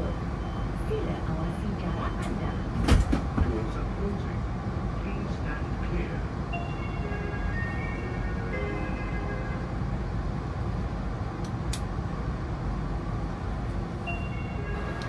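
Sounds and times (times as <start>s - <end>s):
train cabin rumble: 0.0s - 15.0s.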